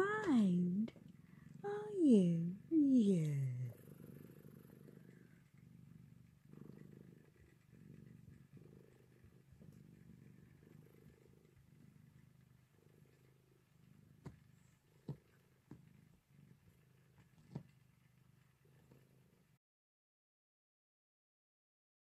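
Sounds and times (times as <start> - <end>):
kitten purring: 0.0 - 19.6.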